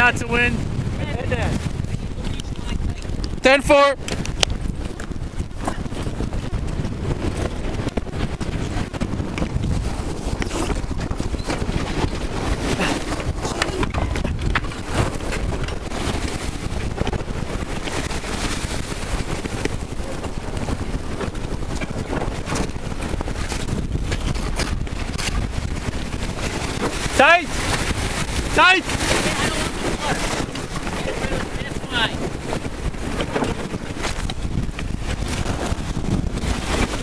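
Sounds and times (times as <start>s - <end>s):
water rushing along hull: 0.0s - 37.0s
wind buffeting microphone: 0.0s - 37.0s.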